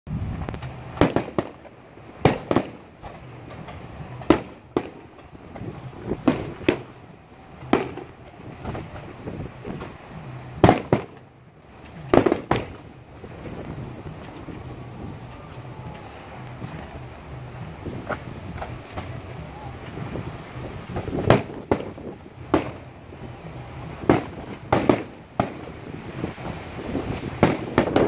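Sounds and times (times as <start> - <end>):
low steady hum: 0.1 - 27.4
fireworks bursting: 0.1 - 28.0.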